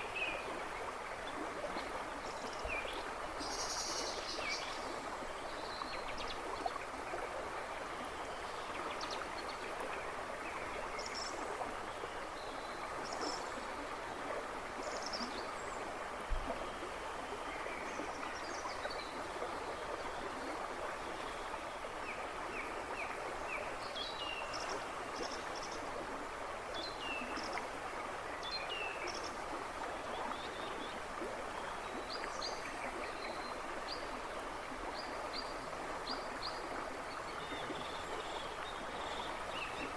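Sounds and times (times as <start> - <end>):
river rushing and babbling: 0.0 - 39.9.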